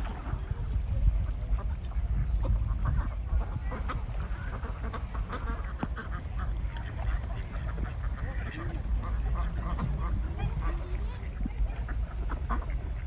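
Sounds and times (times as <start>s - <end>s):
ducks quacking: 1.2s - 13.0s.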